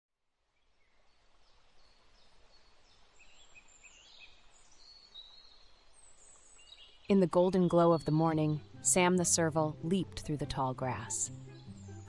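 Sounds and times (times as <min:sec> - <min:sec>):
birds chirping: 0:01.6 - 0:12.0.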